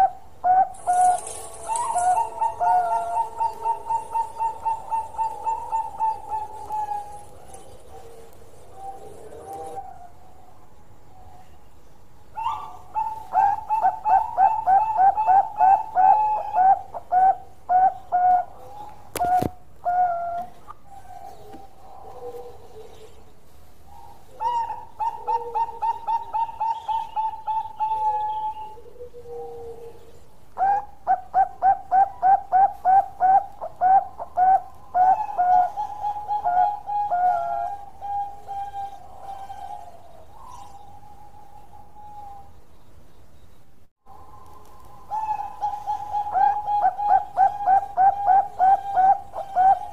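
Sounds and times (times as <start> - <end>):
dove cooing: 0.0 - 11.6, 12.3 - 42.6, 44.1 - 49.9.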